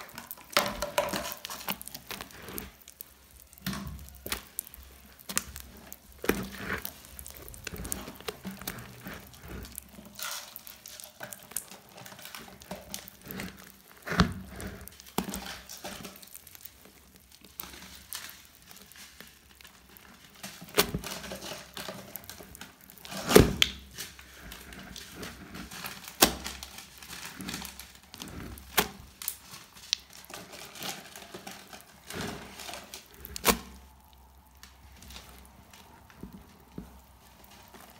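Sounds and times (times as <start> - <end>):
slime with beads crackling: 0.0 - 37.9.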